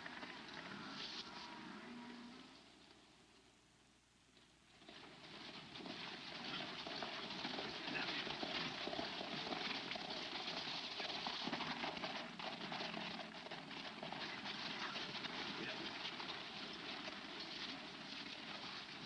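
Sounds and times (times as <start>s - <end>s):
horse hooves clattering: 0.0s - 1.4s, 4.7s - 19.0s.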